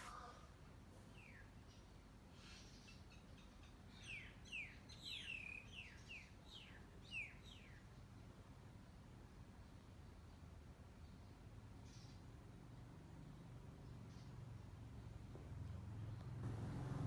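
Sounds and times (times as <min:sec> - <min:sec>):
quiet background hum: 0:00.0 - 0:17.0.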